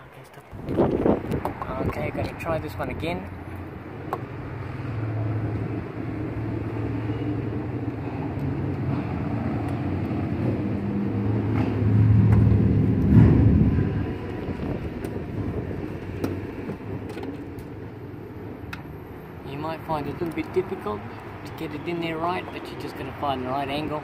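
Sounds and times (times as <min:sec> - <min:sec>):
motor vehicle engine humming: 0:00.4 - 0:21.9.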